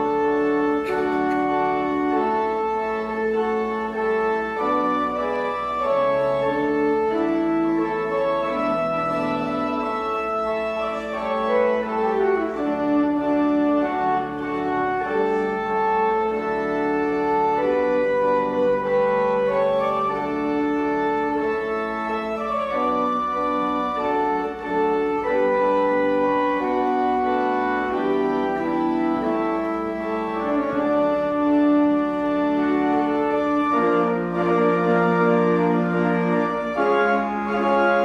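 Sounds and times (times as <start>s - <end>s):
organ playing sustained chords: 0.0s - 38.0s.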